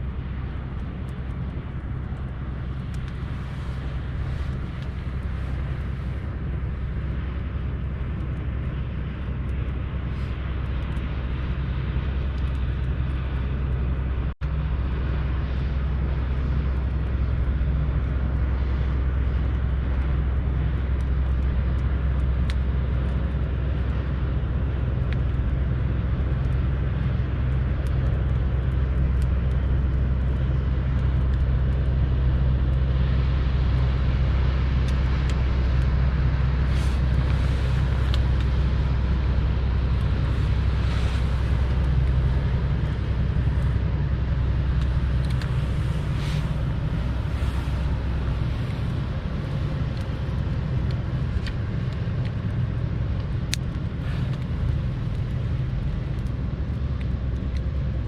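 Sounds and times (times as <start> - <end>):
campfire crackling: 0.0 - 58.0
low fire rumble: 0.0 - 58.0.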